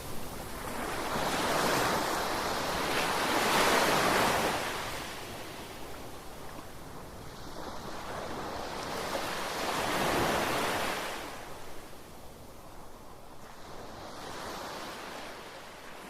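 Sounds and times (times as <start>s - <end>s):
ocean waves breaking on shore: 0.0s - 16.0s.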